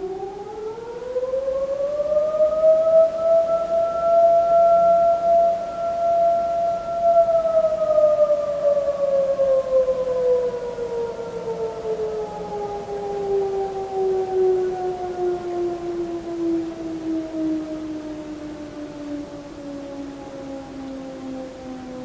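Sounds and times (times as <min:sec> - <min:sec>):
siren-like tone: 0:00.0 - 0:22.0.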